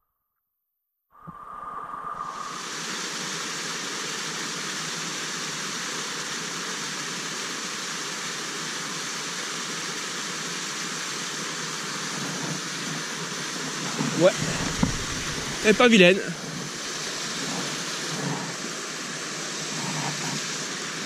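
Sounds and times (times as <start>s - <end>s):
stream water over small waterfall: 1.9s - 21.0s.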